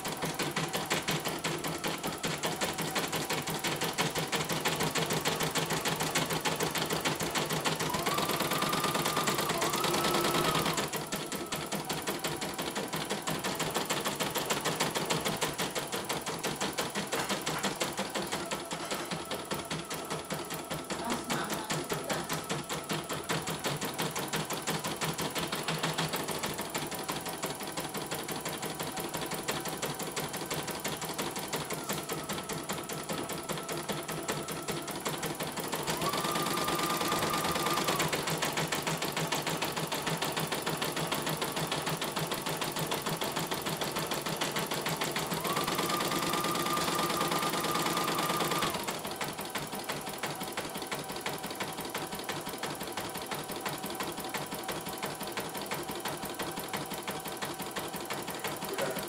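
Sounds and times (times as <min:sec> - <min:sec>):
embroidery machine stitching: 0:00.0 - 0:59.0.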